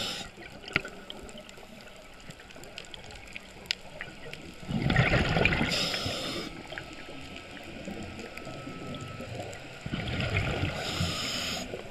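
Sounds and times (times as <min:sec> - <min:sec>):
exhaled bubbles underwater: 0:00.0 - 0:11.9
water noise: 0:00.0 - 0:11.9.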